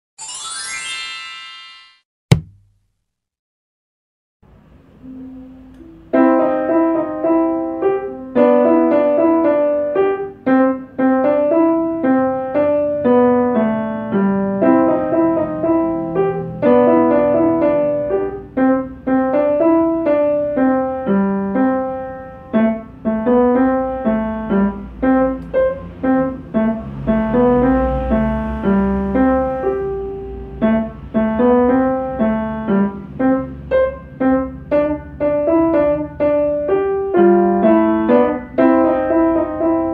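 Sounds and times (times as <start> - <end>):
upright piano playing: 0.2 - 2.5, 5.0 - 39.9.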